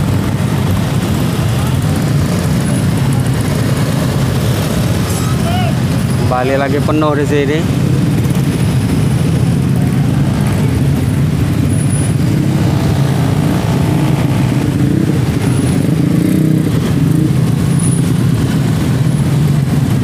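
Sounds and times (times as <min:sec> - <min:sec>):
car and motorcycle engines idling: 0:00.0 - 0:20.0.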